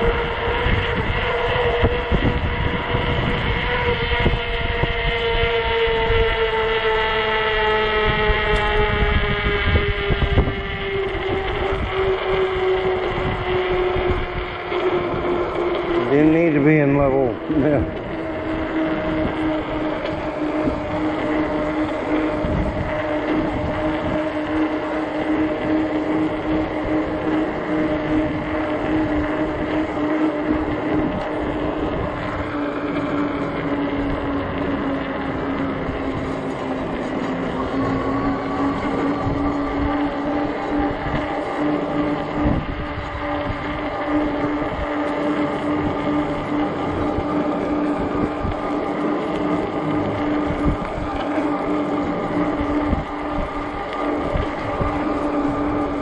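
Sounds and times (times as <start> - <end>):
e-bike motor and tyres humming: 0.0 - 56.0
wind buffeting microphone: 0.0 - 56.0.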